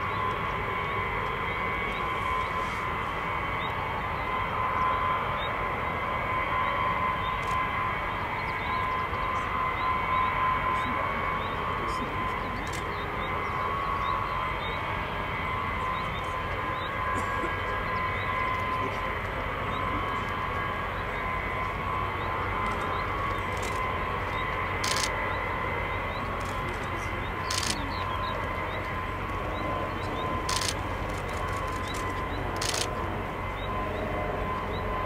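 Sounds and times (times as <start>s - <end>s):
aircraft turbine engines running: 0.0s - 35.0s.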